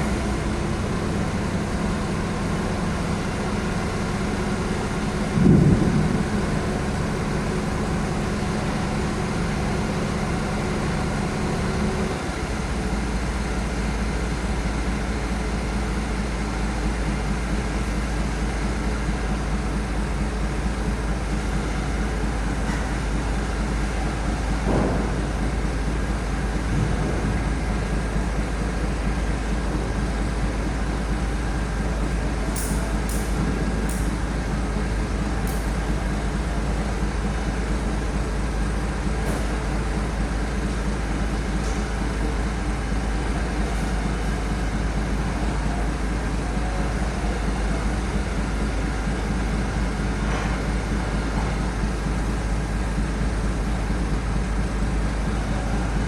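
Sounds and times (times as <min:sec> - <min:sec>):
heavy engine droning: 0:00.0 - 0:56.0.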